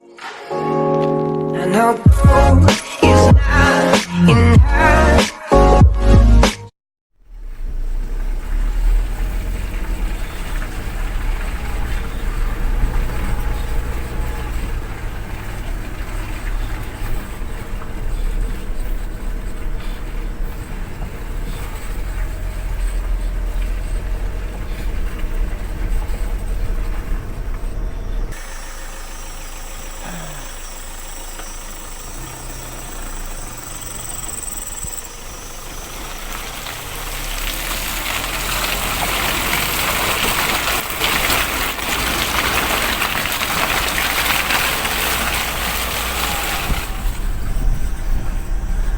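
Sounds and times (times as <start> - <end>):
vehicle engine rumbling: 7.1 - 48.9.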